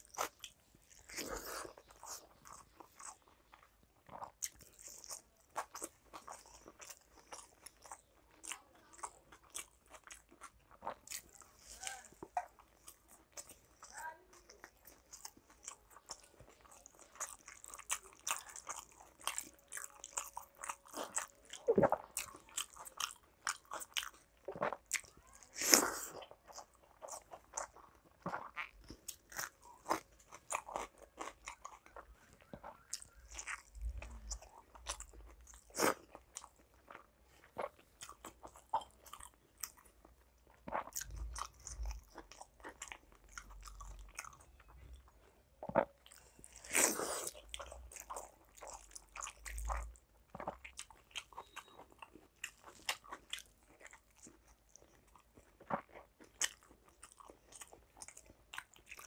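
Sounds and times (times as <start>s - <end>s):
wet chewing and smacking: 0.0s - 59.0s.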